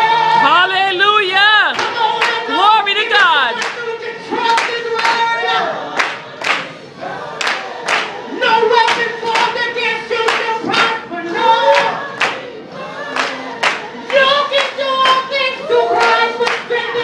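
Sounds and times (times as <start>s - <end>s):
gospel singing by several voices: 0.0s - 17.0s
rhythmic hand clapping: 1.7s - 17.0s.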